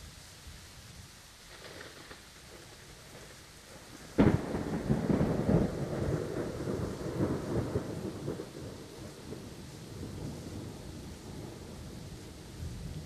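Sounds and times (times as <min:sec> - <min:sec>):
heavy rain: 0:00.0 - 0:13.0
thunderclap with crackling rumble: 0:01.4 - 0:13.0.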